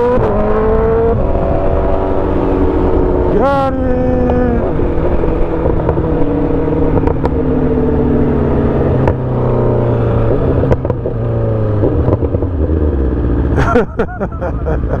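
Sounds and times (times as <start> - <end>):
motorcycle engine running: 0.0 - 15.0
road and wind rumble: 0.0 - 15.0.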